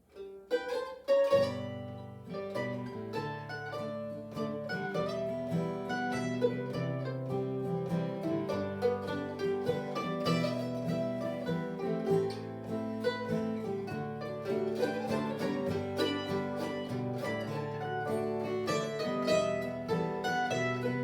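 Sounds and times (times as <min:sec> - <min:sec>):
plucked mandolin: 0:00.0 - 0:21.0
guitar notes: 0:00.1 - 0:21.0.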